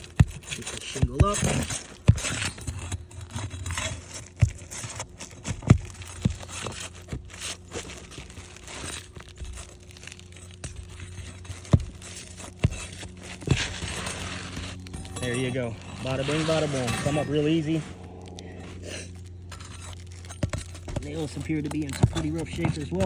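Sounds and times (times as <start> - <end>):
shingle scraping and tearing: 0.0 - 23.0.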